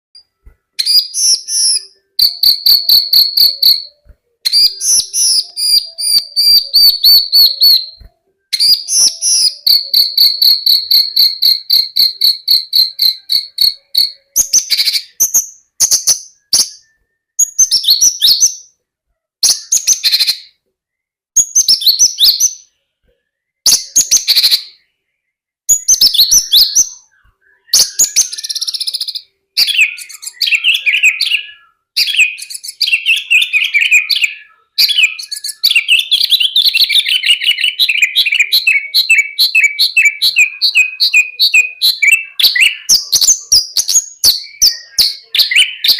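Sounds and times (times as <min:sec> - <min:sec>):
bird singing high chirps and trills: 0:00.1 - 0:45.9.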